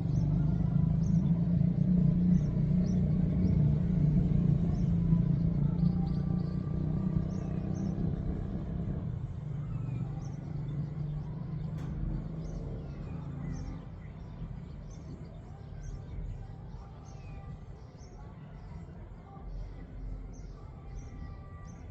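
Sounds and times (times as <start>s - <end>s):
vehicle engine rumble: 0.0s - 21.9s.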